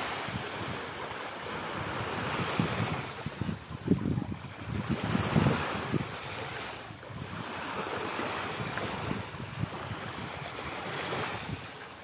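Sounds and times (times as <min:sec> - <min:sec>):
waves washing on shore: 0:00.0 - 0:12.0
wind buffeting microphone: 0:00.0 - 0:12.0.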